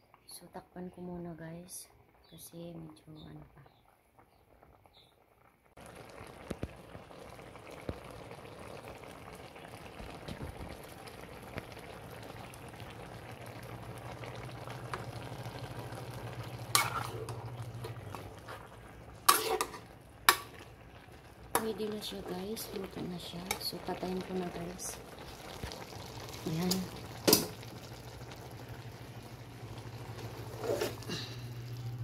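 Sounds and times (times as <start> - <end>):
sauce bubbling in a pan: 3.7 - 32.0.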